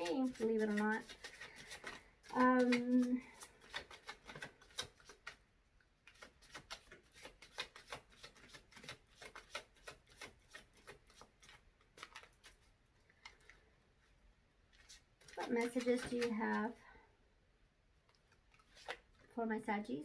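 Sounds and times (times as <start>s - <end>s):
cards being shuffled: 0.0s - 5.4s, 6.0s - 13.7s, 14.7s - 16.8s, 18.1s - 19.3s.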